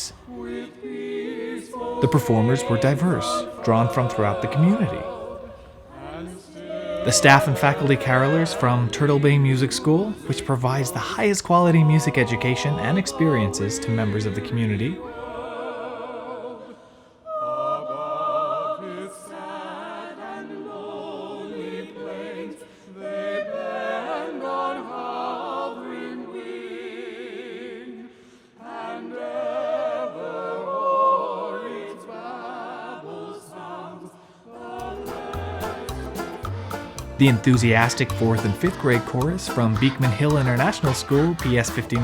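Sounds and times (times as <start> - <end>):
carolers singing: 0.0 - 42.0.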